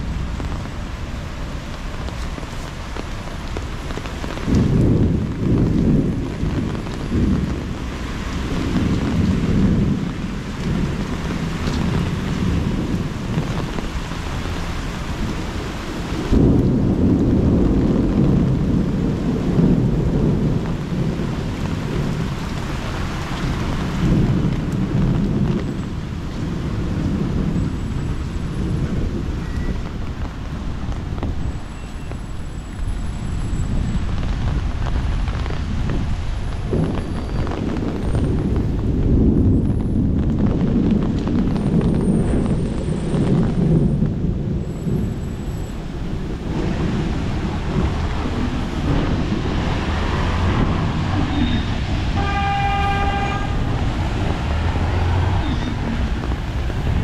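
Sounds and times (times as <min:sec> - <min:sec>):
steady rain: 0:00.0 - 0:57.0
thunder rumbling: 0:00.0 - 0:57.0.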